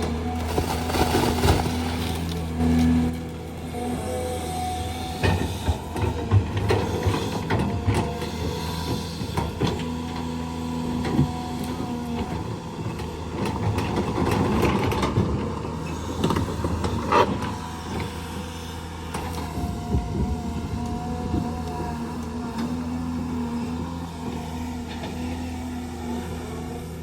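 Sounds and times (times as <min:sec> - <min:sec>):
diesel engines running: 0:00.0 - 0:27.0.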